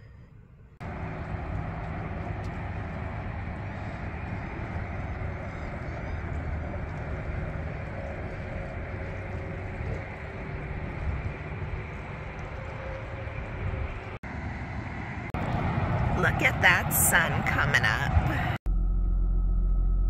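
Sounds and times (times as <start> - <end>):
constant low hum: 0.0 - 20.0
minivan road and engine noise: 0.6 - 20.0.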